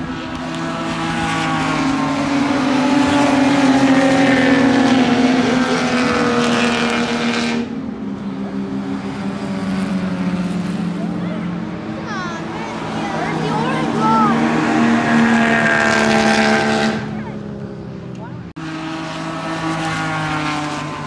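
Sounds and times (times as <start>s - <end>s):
racing car engine passing: 0.0s - 21.0s.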